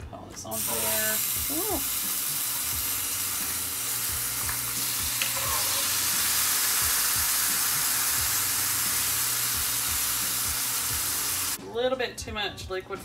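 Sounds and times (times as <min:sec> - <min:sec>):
meat sizzling in a skillet: 0:00.6 - 0:11.6.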